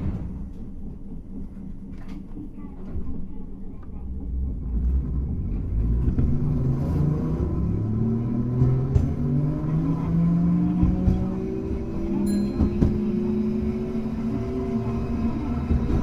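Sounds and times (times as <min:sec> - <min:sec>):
tram motor and gear whine: 0:00.0 - 0:16.0.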